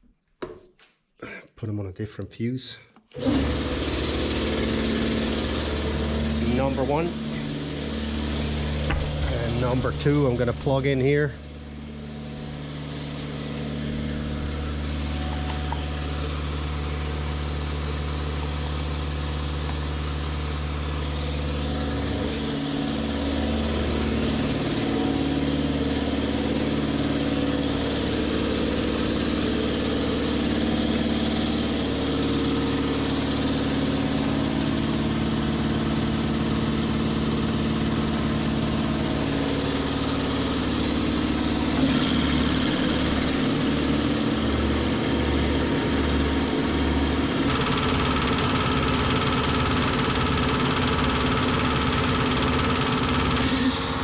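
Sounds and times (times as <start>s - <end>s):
air compressors running: 3.1s - 54.0s.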